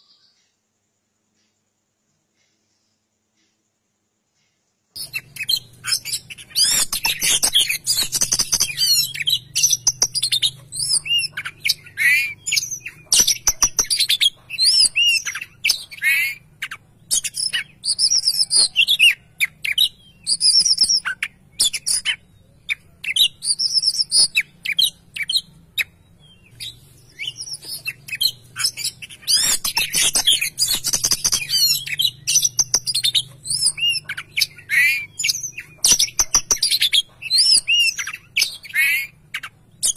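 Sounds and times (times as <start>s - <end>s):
bird singing whistled phrases: 5.0s - 39.9s.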